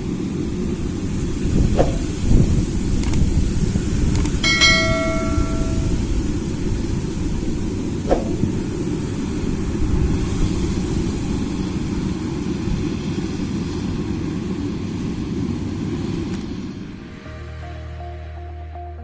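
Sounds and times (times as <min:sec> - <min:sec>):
combine harvester running: 0:00.0 - 0:17.3.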